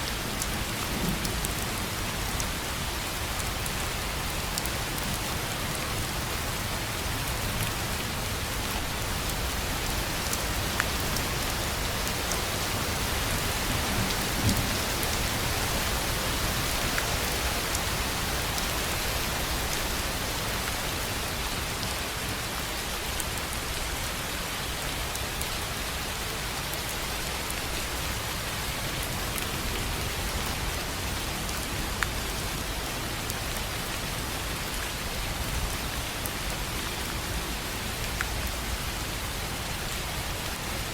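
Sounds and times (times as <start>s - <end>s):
rain on a tin roof: 0.0s - 40.9s.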